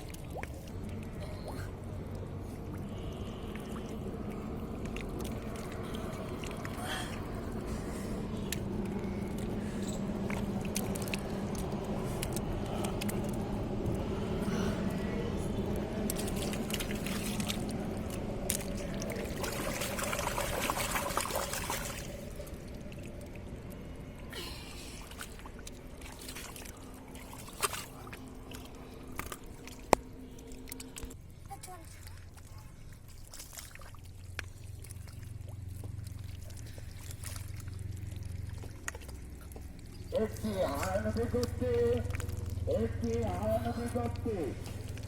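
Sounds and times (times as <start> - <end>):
muddy water splashing: 0.0 - 45.0
steady low hum: 0.0 - 45.0.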